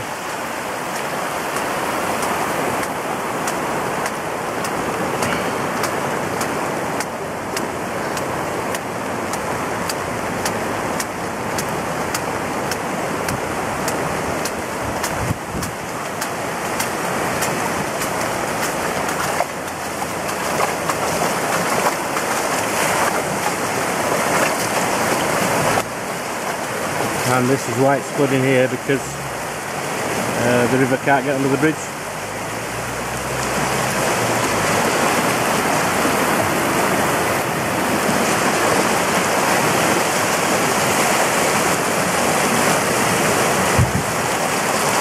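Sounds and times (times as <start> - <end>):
rushing floodwater: 0.0 - 45.0.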